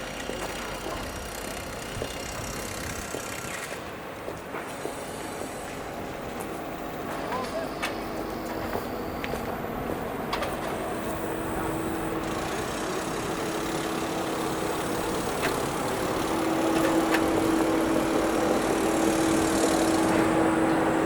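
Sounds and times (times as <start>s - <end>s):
street noise: 0.0s - 21.0s.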